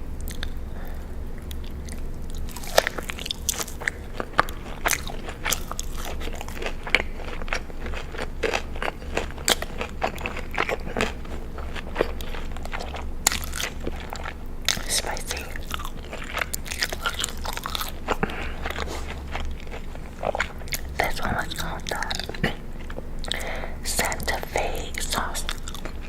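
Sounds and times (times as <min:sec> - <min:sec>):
low hum: 0:00.0 - 0:26.0
crunchy chewing: 0:00.2 - 0:26.0.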